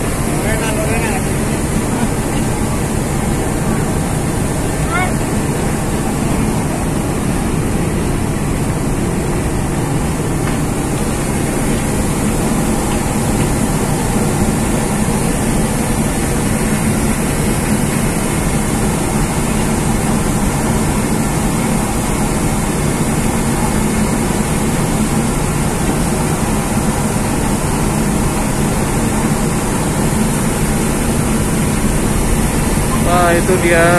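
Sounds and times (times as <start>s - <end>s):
ship engines droning: 0.0s - 33.9s.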